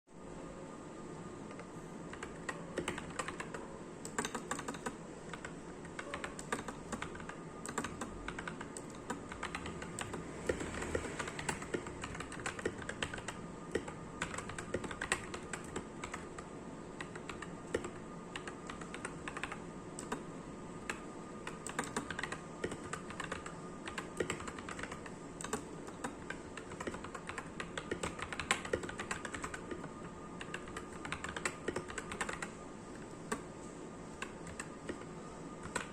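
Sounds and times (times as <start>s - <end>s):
mechanical keyboard typing: 1.5s - 33.5s, 34.1s - 35.9s.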